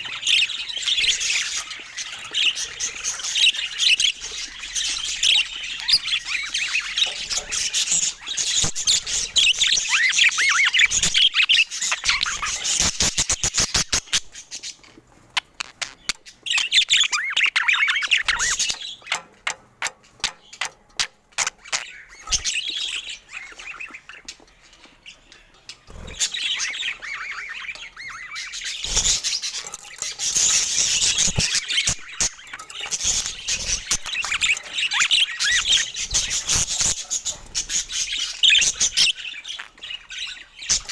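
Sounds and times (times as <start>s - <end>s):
budgerigars twittering: 0.0s - 40.9s.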